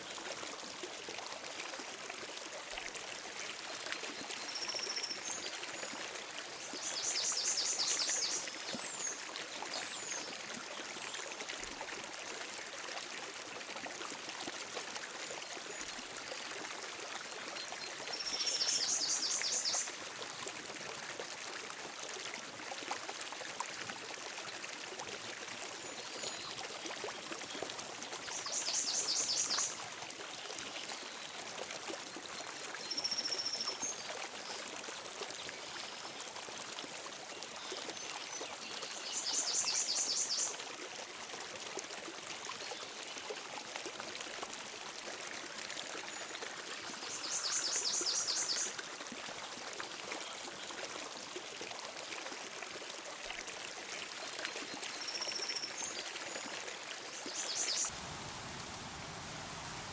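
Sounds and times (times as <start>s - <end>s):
creek flowing: 0.0s - 59.9s.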